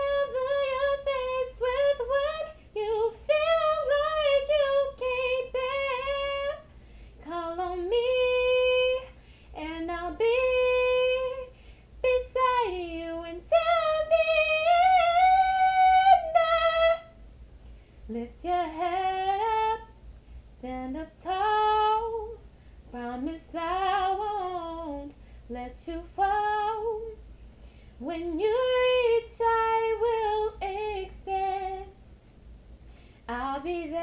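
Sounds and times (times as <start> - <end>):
woman singing unaccompanied: 0.0 - 17.2, 18.1 - 27.2, 28.0 - 32.0, 33.3 - 34.0.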